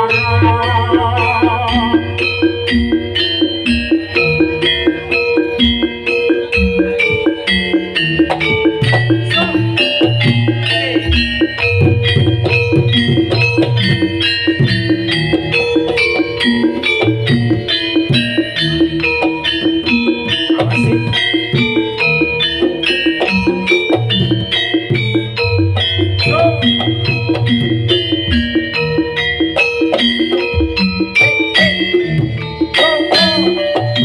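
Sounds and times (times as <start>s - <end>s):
metallophone notes: 0.0s - 34.0s.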